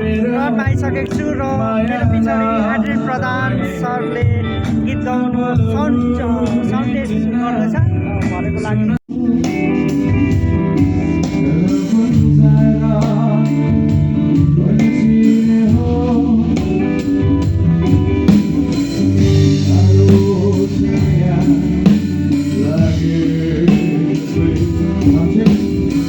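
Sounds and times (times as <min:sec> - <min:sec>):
live band guitar music: 0:00.0 - 0:26.0
person singing: 0:00.0 - 0:26.0.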